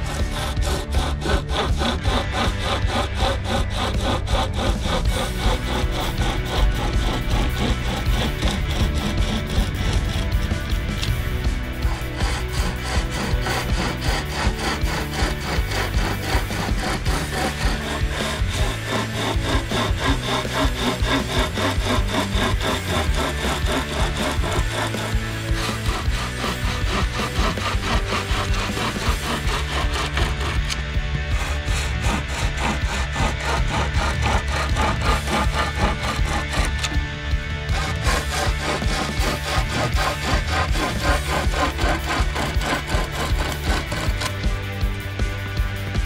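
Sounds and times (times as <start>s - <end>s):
hand chainsaw sawing wood: 0.0s - 46.0s.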